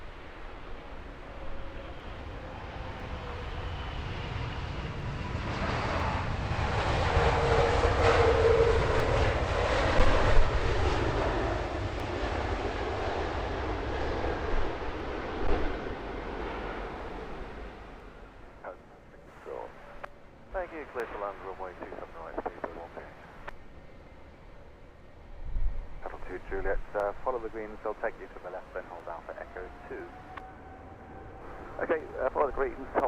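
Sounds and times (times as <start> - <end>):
jet airliner passing: 0.0 - 33.0.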